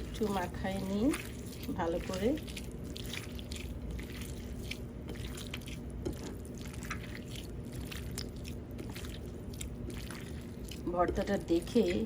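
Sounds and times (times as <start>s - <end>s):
food squelching mixed by hand: 0.0s - 12.0s.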